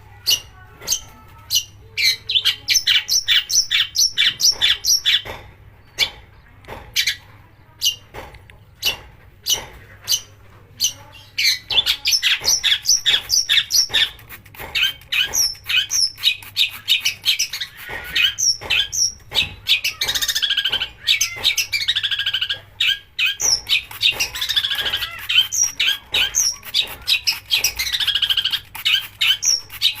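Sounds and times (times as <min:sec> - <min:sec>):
bird singing harsh chattering song: 0:00.1 - 0:07.2, 0:08.7 - 0:30.0.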